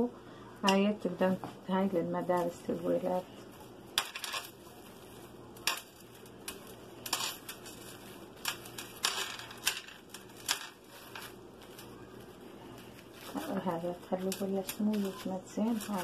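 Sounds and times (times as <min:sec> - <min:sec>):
plastic cling wrap crinkling: 0:00.6 - 0:16.0.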